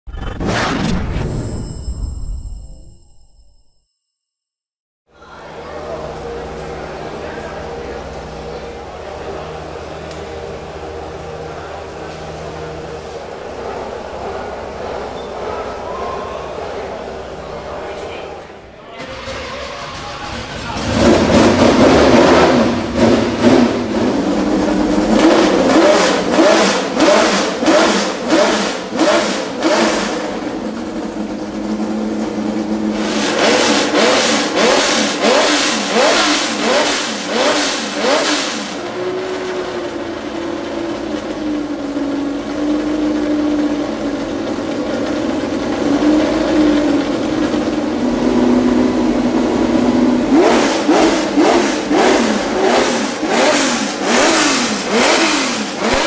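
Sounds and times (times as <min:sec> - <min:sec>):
racing car engine revving and idling: 0:05.1 - 0:56.0.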